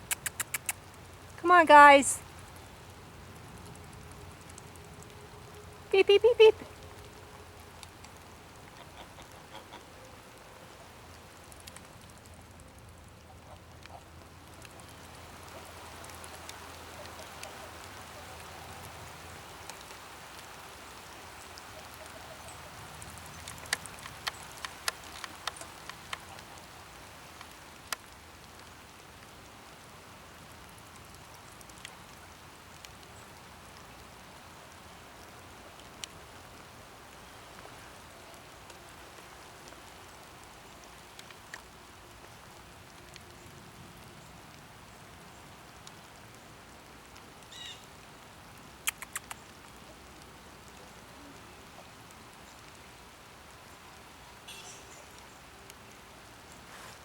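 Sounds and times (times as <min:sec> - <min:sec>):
sharp ticks of raindrops: 0:00.0 - 0:56.7
steady rain falling: 0:00.0 - 0:57.0.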